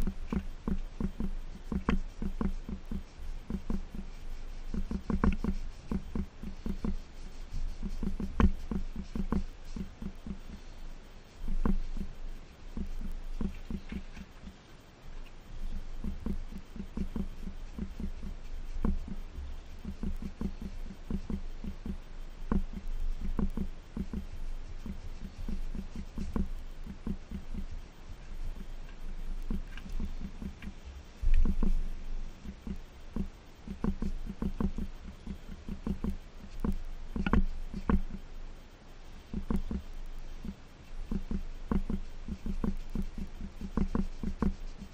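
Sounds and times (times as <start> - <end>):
gloved hand scrubbing metal pipes: 0.0 - 38.2.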